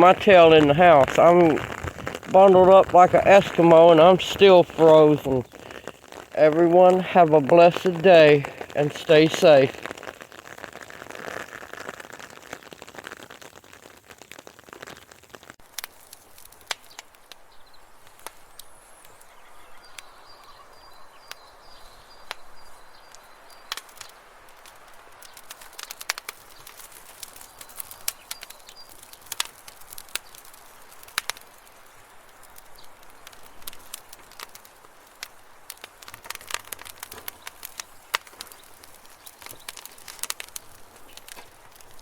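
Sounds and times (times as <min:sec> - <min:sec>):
ice pellets ticking on surfaces: 0:00.0 - 0:19.1, 0:23.1 - 0:42.0
sleet and freezing rain falling: 0:00.0 - 0:42.0.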